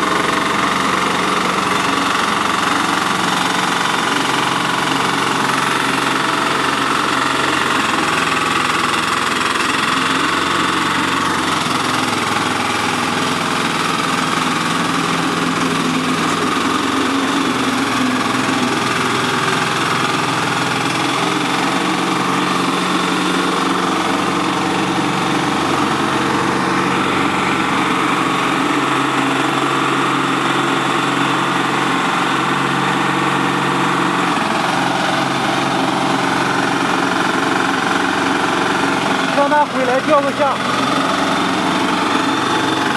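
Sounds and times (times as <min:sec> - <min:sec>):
blower fan rushing: 0:00.0 - 0:42.9
diesel engine running under load: 0:00.0 - 0:42.9.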